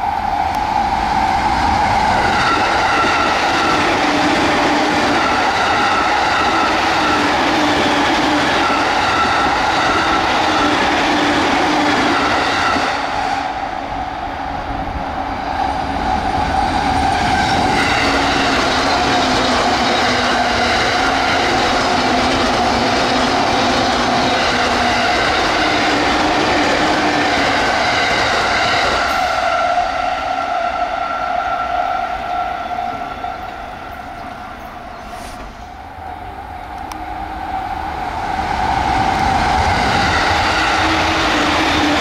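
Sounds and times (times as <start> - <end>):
train hum: 0.0 - 42.0
train wheels rumbling on rail: 0.0 - 42.0.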